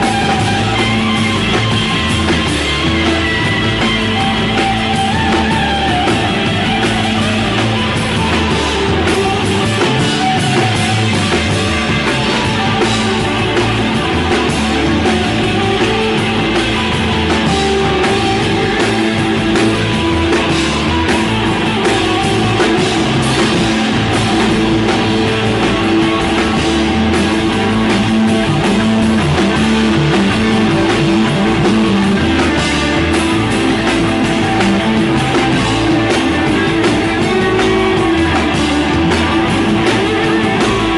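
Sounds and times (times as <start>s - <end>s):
electric guitar sustained tones: 0.0s - 40.9s
live rock band playing: 0.0s - 40.9s.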